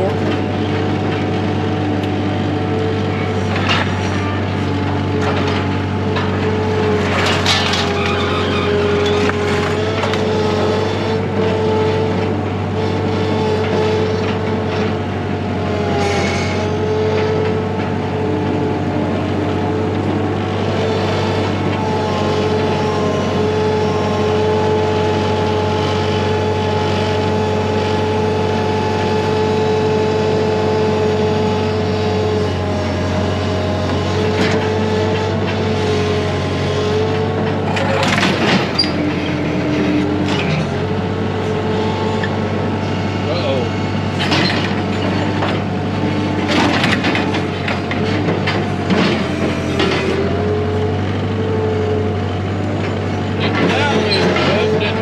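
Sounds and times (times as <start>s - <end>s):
motor running steadily: 0.0s - 55.0s.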